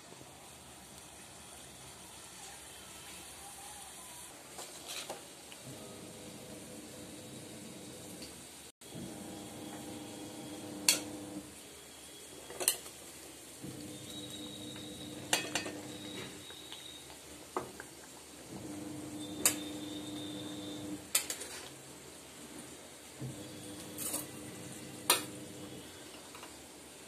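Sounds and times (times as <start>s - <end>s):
gravy sizzling: 0.2s - 27.0s.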